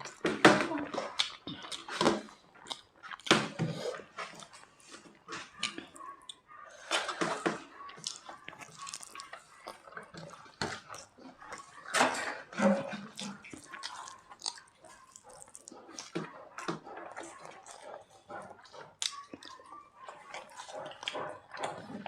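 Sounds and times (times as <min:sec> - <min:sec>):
wet chewing and lip smacking: 0:00.0 - 0:22.0.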